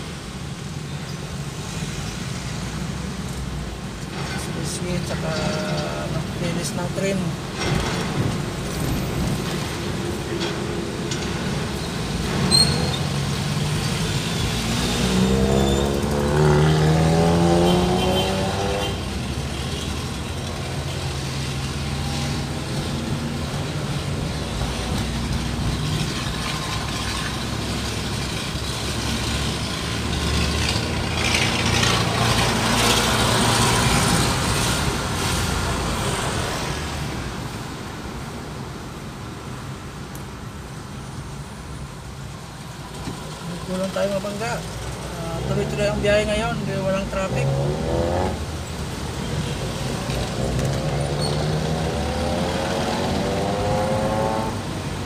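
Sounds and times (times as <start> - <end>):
car engine and road rumble: 0.0 - 55.0
passing traffic rush: 0.0 - 55.0.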